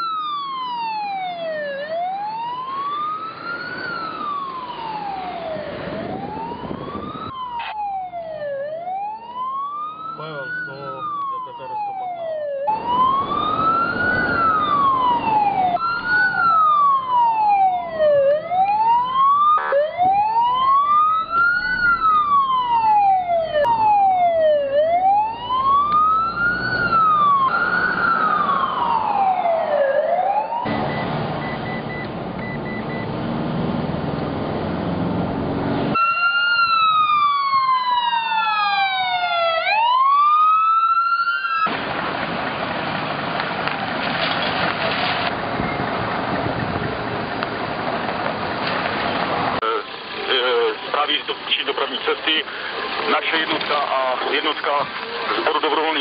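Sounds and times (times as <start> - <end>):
engine and road noise: 0.0 - 56.0
sirens wailing: 0.0 - 56.0.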